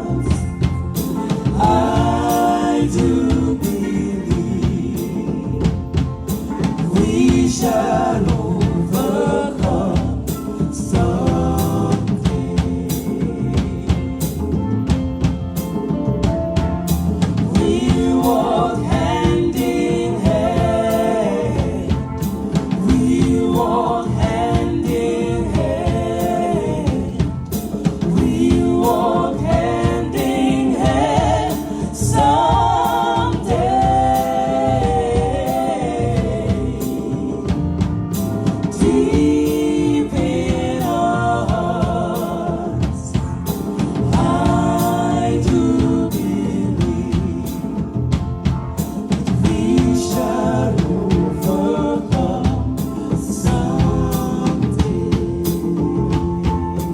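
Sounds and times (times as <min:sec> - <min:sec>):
choir singing: 0:00.0 - 0:56.9
drum kit beat: 0:00.0 - 0:56.9.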